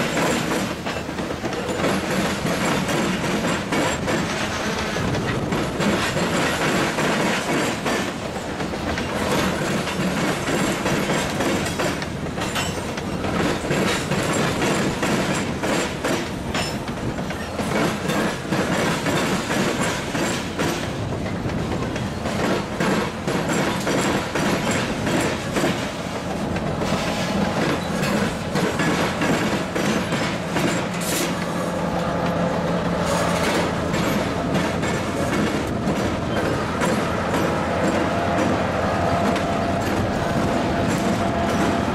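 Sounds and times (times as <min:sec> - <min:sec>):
diesel locomotive engine hum: 0:00.0 - 0:41.9
train wheels clacking over rail joints: 0:00.0 - 0:41.9.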